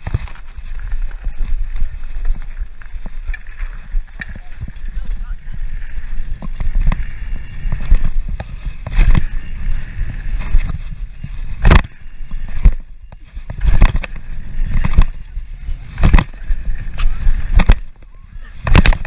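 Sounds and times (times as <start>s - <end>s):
bike clunks and rattles: 0.0s - 19.0s
wind rumble on microphone: 0.0s - 19.0s.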